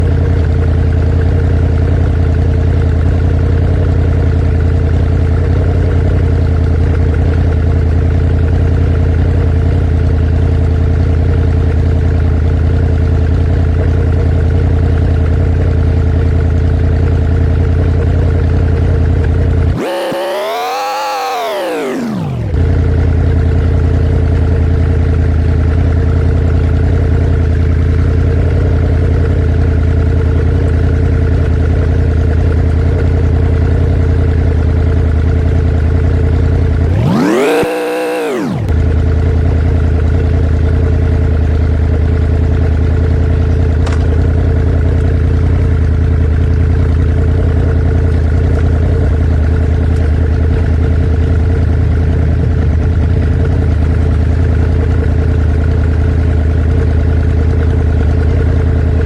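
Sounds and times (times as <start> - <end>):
vehicle engine idling and revving: 0.0 - 59.0.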